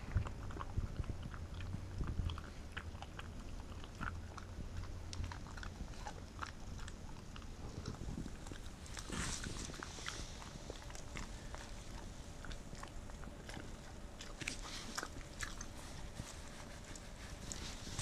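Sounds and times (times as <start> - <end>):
dog chewing and crunching food: 0.0 - 18.0
steady low hum: 0.0 - 18.0.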